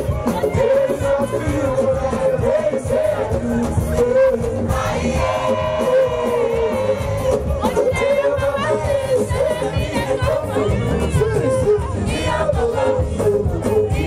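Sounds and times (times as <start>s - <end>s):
amplified pop backing track: 0.0s - 14.0s.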